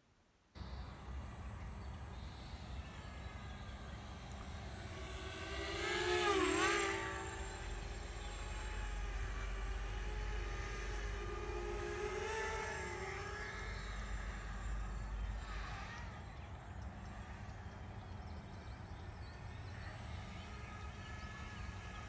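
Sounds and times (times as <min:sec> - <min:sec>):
drone propellers whining: 0:00.6 - 0:22.0.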